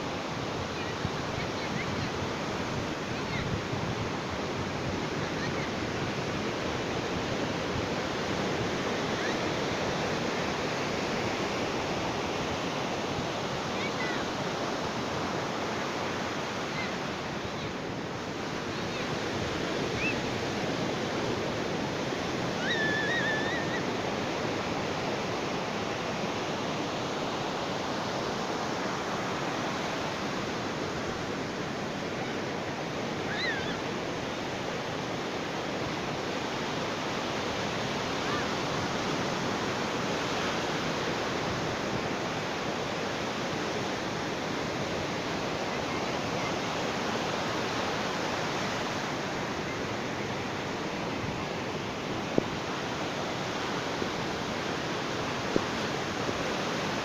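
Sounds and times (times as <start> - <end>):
ocean surf washing on beach: 0.0 - 57.0.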